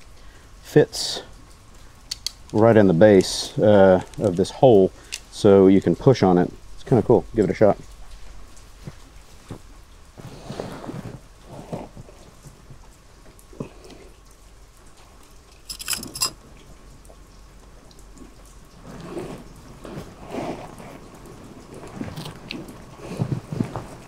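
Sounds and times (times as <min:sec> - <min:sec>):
steady rain falling: 0:00.0 - 0:24.0
vinyl rain suit rustling: 0:01.0 - 0:24.0.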